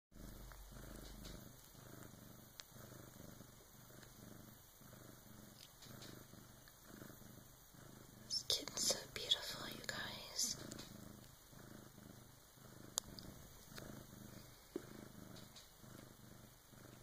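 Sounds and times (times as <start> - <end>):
cat purring: 0.2 - 17.0.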